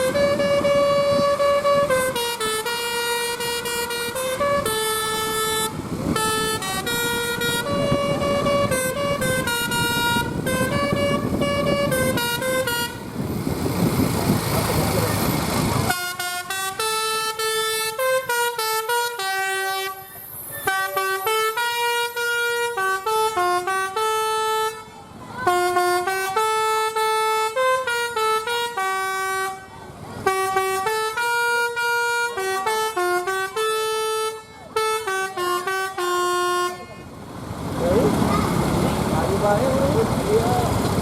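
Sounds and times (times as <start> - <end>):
melodic bus horn playing: 0.0 - 13.2, 15.8 - 37.2.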